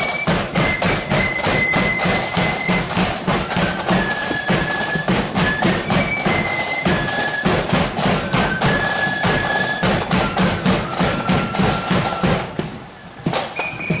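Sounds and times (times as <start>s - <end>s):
drums beating: 0.0s - 14.0s
flutes playing melody: 0.0s - 14.0s.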